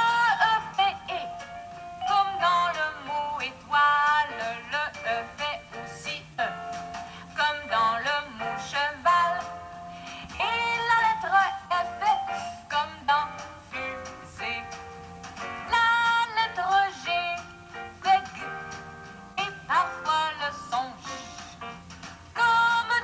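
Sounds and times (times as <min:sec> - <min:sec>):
song with sung melody: 0:00.0 - 0:23.0.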